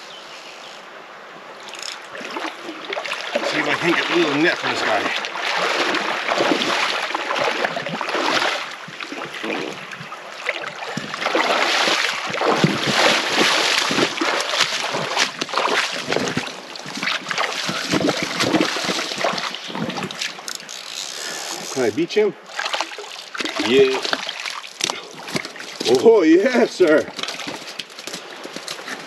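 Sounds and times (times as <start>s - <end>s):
water splashing around wading legs: 1.6s - 29.0s.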